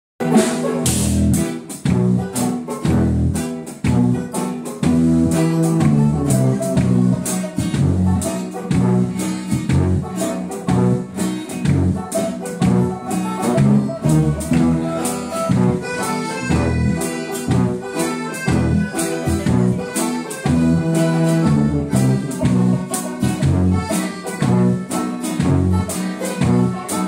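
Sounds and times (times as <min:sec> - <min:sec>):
guitars: 0:00.2 - 0:27.0
steady drum beat: 0:00.2 - 0:27.0
sousaphone bass line: 0:00.9 - 0:26.8.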